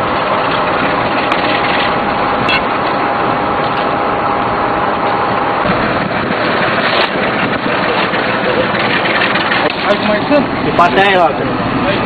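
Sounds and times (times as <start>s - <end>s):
engine running: 0.0s - 12.0s
thin steady whine: 0.0s - 12.0s.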